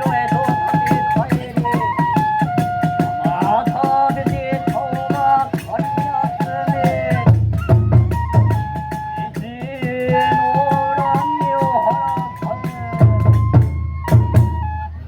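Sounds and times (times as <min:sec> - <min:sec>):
bamboo flute melody: 0:00.0 - 0:15.0
heavy drum beats: 0:00.0 - 0:15.0.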